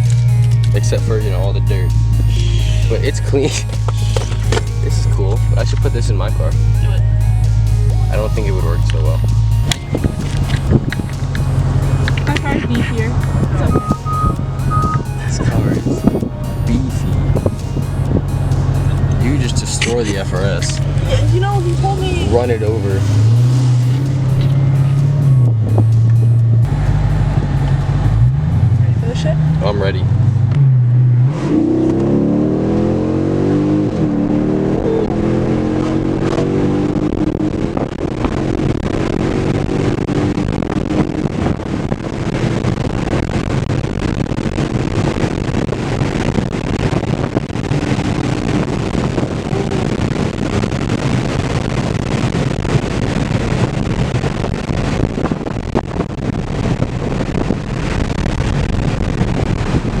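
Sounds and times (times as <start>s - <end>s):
car engine accelerating: 0.0s - 60.0s
road and wind noise: 0.0s - 60.0s.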